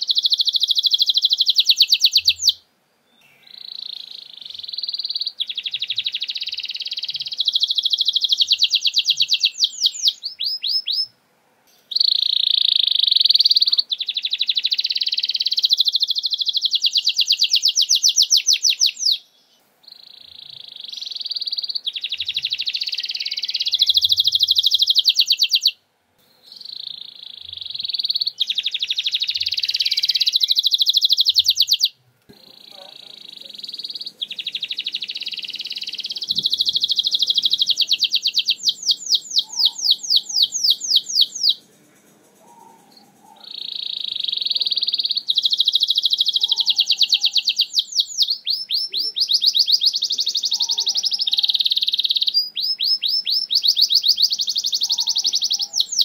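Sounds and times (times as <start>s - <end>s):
canary singing trills: 0.0s - 25.8s, 26.4s - 56.0s.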